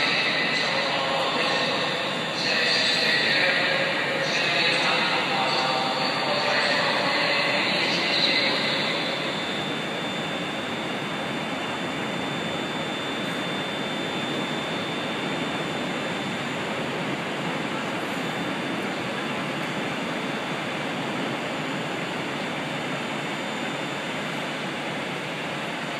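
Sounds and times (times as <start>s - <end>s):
faint high whine: 0.0s - 25.9s
train equipment humming and hissing: 0.0s - 25.9s.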